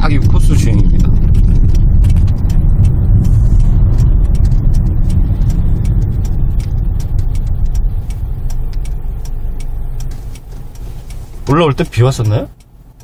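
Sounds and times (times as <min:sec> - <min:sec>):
car engine and road noise: 0:00.0 - 0:13.0
turn signal ticking: 0:00.0 - 0:13.0.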